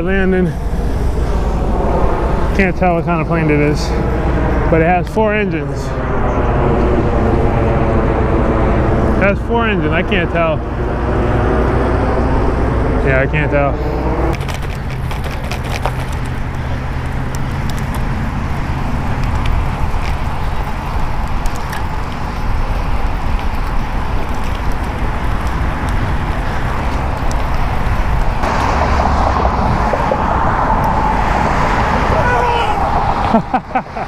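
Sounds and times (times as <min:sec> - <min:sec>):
bicycle tyre and road noise: 0:00.0 - 0:34.0
wind rumble on microphone: 0:00.0 - 0:34.0.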